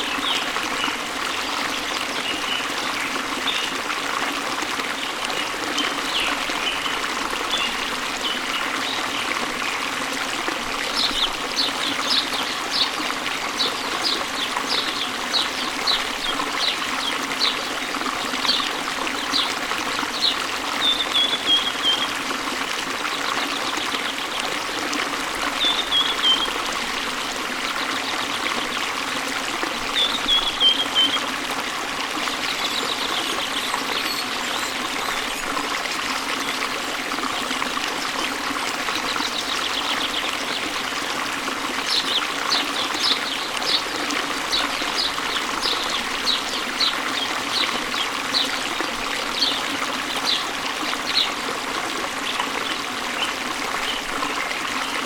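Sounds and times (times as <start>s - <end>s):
waterfall flowing into stream: 0.0s - 55.0s.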